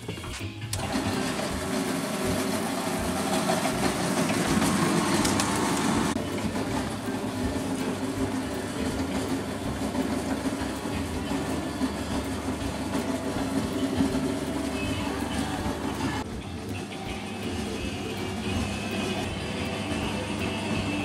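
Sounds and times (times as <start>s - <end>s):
juice press motor humming: 0.0s - 21.0s.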